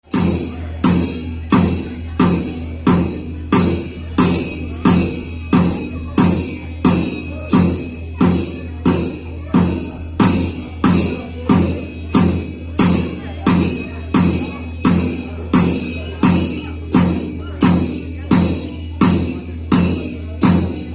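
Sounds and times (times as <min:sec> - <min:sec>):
drum beaten in steady beat: 0:00.0 - 0:20.9.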